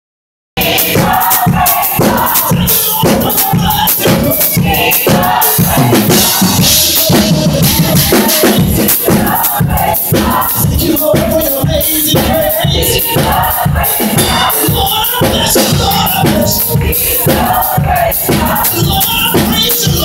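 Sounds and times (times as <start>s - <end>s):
drum kit played fast: 0.6s - 20.0s
live music: 0.6s - 20.0s.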